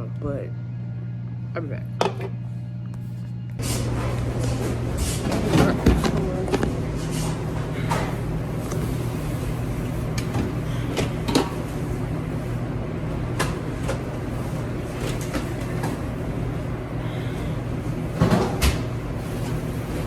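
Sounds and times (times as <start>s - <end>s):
steady low mechanical hum: 0.0s - 20.0s.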